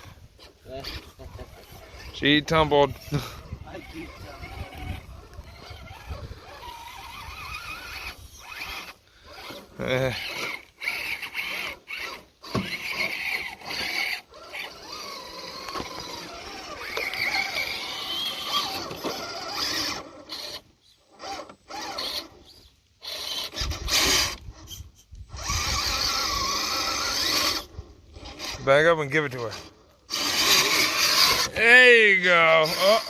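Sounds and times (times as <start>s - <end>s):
electric motors whining: 0.0s - 33.0s
tyres scraping over rock: 0.0s - 33.0s.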